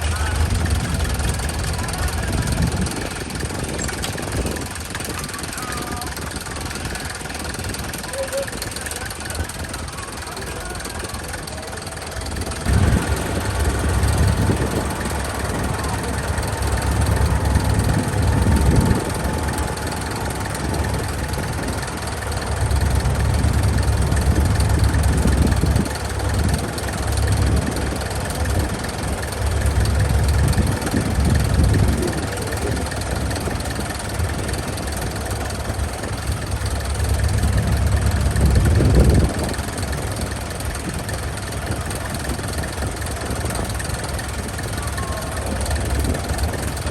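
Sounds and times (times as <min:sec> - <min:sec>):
engine running with low rumble: 0:00.0 - 0:46.9.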